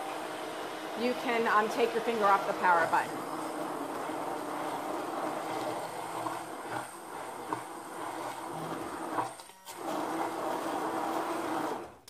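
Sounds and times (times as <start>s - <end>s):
hand blender blending fruit: 0.0s - 12.0s.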